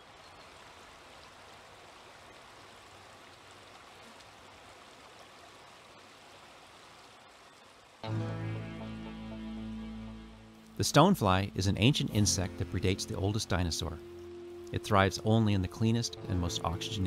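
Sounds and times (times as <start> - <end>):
stream water rushing: 0.0 - 8.0, 10.5 - 17.0.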